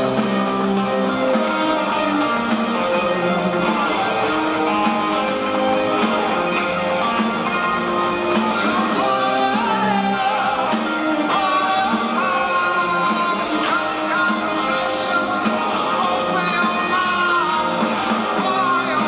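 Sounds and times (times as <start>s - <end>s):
live rock band playing: 0.0s - 19.0s
person singing: 0.0s - 19.0s.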